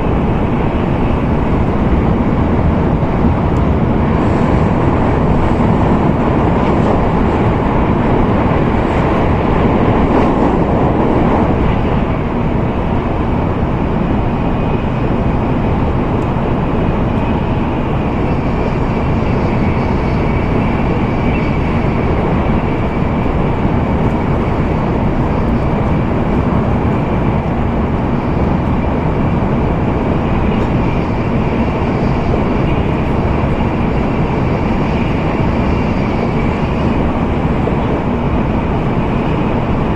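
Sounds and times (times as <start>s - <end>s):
train cabin rolling and air noise: 0.0s - 39.9s.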